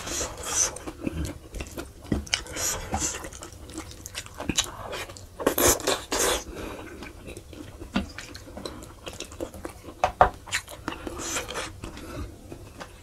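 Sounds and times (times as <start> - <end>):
person chewing meat: 0.0 - 13.0.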